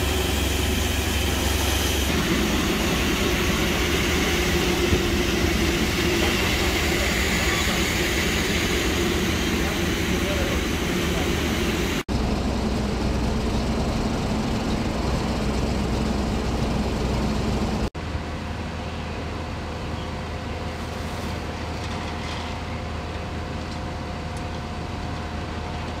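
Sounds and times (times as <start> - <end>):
faint engine whine: 0.0 - 26.0
fire engine running: 0.0 - 26.0.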